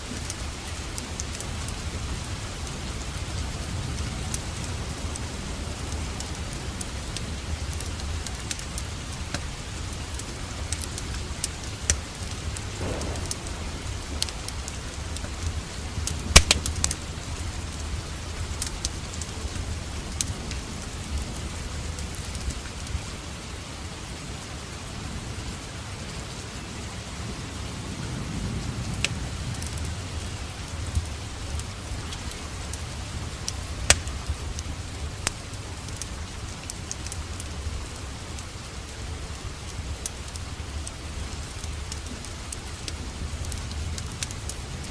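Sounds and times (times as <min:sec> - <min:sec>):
wood fire crackling and popping: 0:00.0 - 0:23.1, 0:29.0 - 0:44.9
rain falling: 0:00.0 - 0:44.9.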